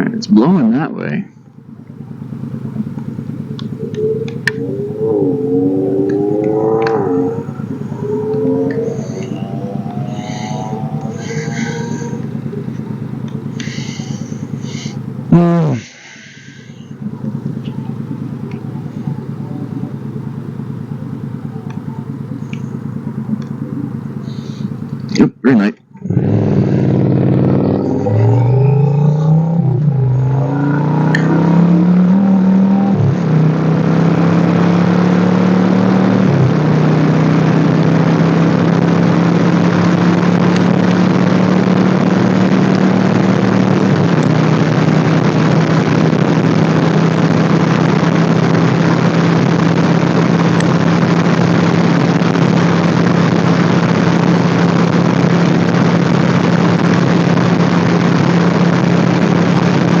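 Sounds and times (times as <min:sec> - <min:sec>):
wind and road noise: 0:00.0 - 0:25.2, 0:25.9 - 1:00.0
motorcycle engine shifting and cruising: 0:00.0 - 1:00.0.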